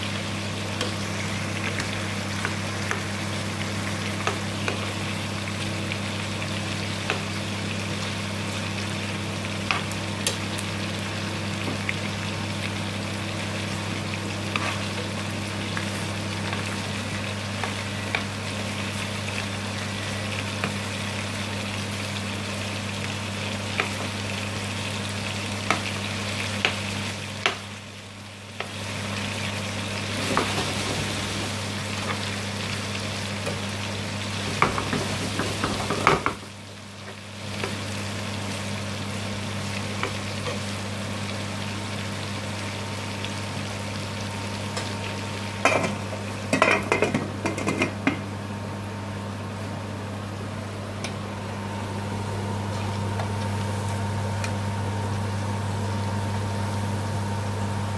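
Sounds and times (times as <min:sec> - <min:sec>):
chicken sizzling in a frying pan: 0:00.0 - 0:57.9.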